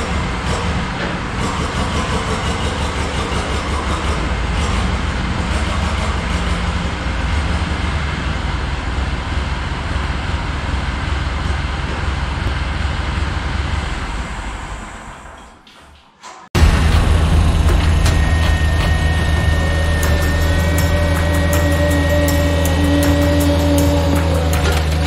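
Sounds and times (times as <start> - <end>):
forklift engine rumbling: 0.0 - 15.5, 16.6 - 25.0.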